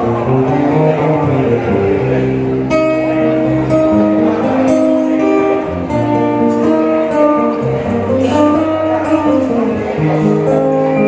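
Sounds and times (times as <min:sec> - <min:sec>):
acoustic guitar picked melody: 0:00.0 - 0:11.0.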